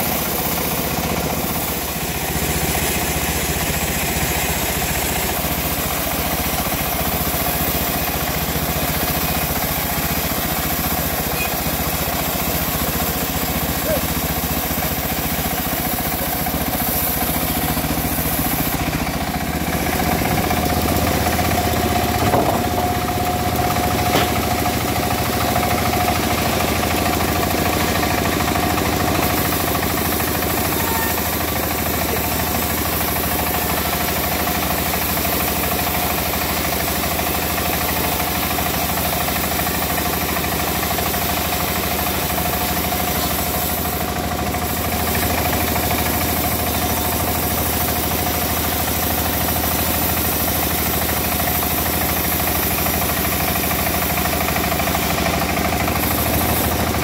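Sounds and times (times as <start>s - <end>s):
petrol engine running steadily: 0.0s - 57.0s.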